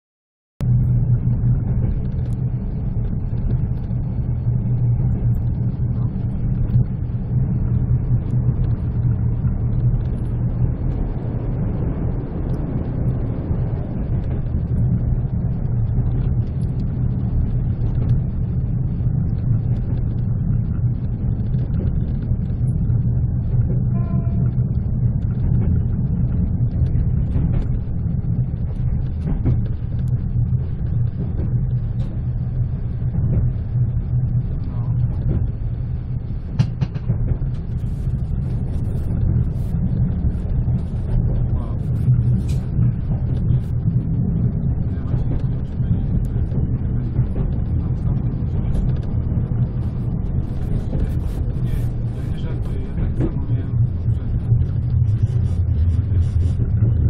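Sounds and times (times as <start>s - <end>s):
train rumbling on track: 0.6s - 57.0s.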